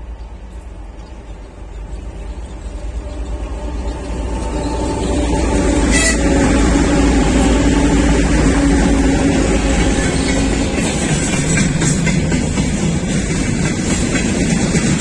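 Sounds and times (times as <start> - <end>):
locomotive engine drone: 0.0 - 15.0
rail and wheel noise: 0.0 - 15.0.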